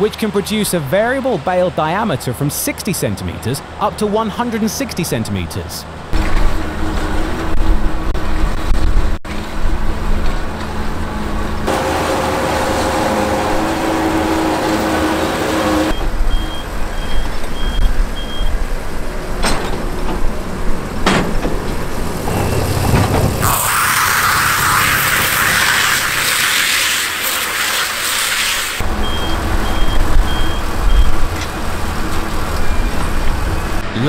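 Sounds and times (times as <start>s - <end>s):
tractor and baler running: 6.1s - 34.0s.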